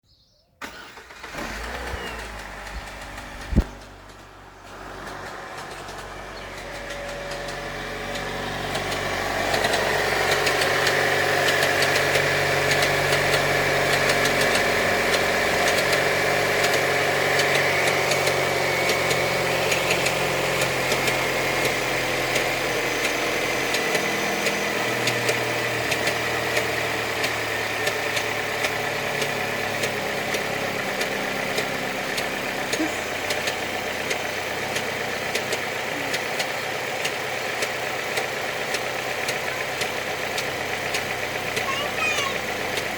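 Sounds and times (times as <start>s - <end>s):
car engine idling with ticking: 1.2s - 42.9s.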